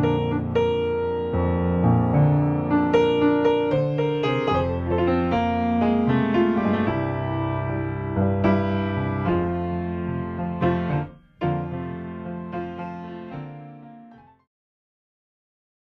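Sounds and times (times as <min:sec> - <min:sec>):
solo piano music: 0:00.0 - 0:14.5.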